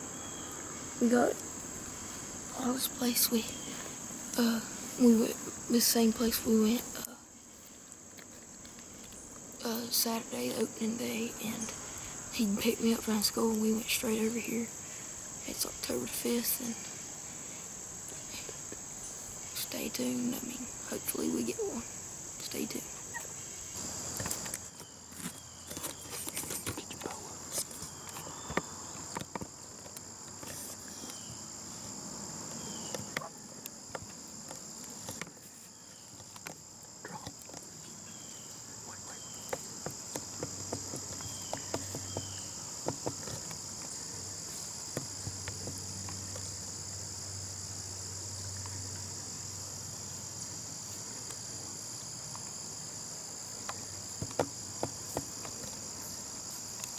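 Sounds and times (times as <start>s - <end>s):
insects chorus: 0.0s - 56.9s.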